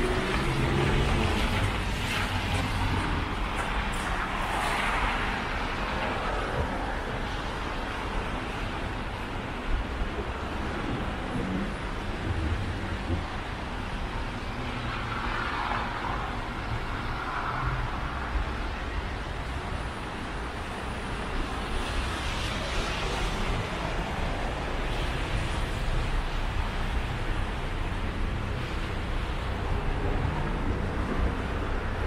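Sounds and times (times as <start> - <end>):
tyres hissing on wet road: 0.0 - 32.0
wind rumble on microphone: 0.0 - 32.0.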